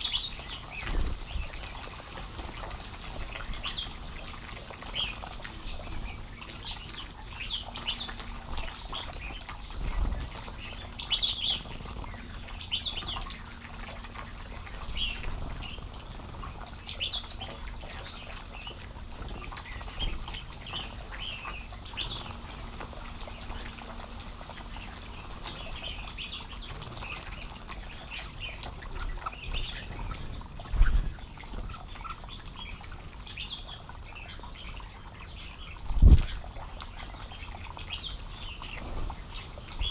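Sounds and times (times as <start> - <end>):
birds splashing in water: 0.0 - 39.9.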